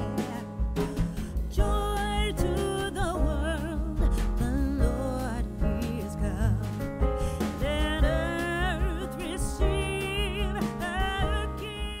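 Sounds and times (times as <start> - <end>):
song with vocals bass and beat: 0.0 - 12.0.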